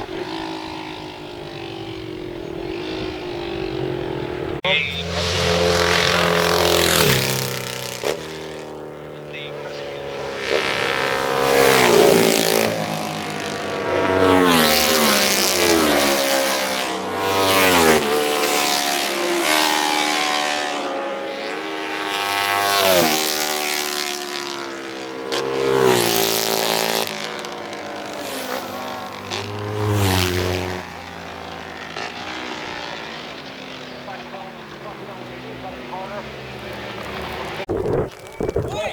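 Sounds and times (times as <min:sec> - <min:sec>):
racing motorcycles passing: 0:00.0 - 0:38.9.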